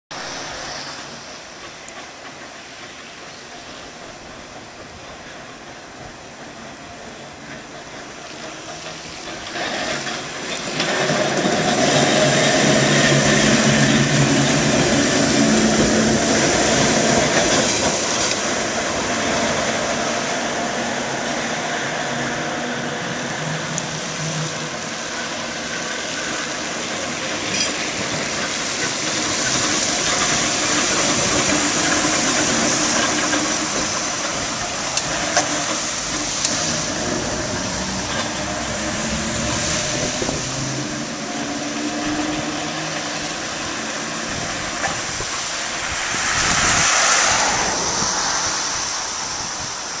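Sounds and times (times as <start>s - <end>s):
streetcar wheels plowing through water: 0.1s - 50.0s.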